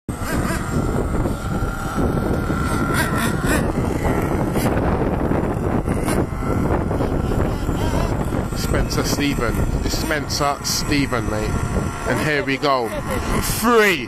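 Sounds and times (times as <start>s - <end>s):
small nitro engines revving: 0.1s - 14.0s
wind noise on microphone: 0.1s - 14.0s.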